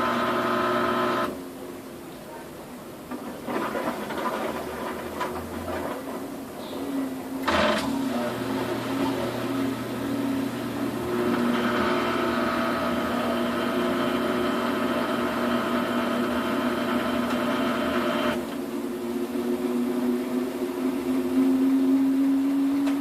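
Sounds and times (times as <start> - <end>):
washing machine spin hum and whine: 0.0 - 23.0.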